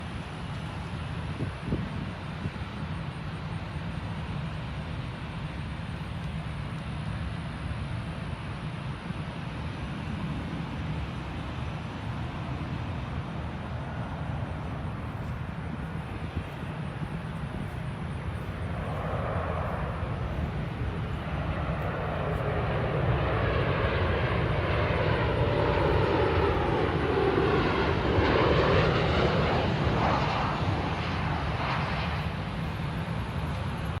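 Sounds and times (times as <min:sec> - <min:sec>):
jet airliner engines whine and rumble: 0:00.0 - 0:34.0.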